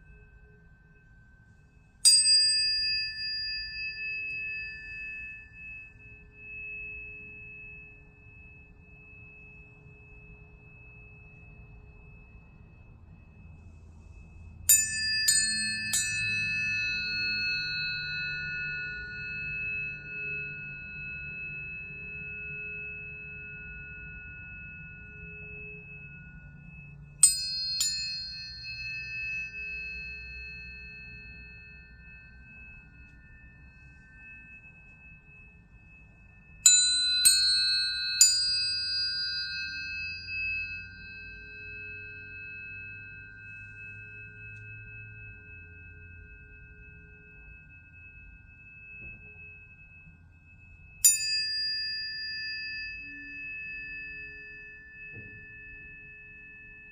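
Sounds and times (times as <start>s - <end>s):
tuning forks ringing: 0.0s - 56.9s.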